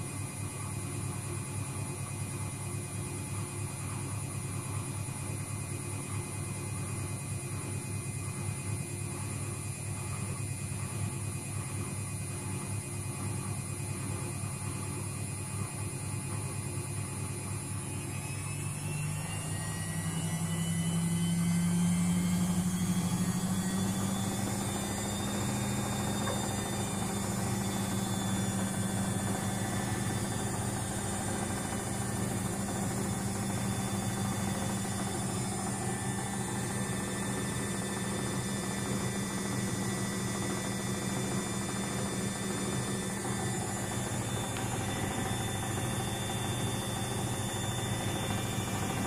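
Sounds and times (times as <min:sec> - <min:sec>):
washing machine spin whine: 0:00.0 - 0:49.0.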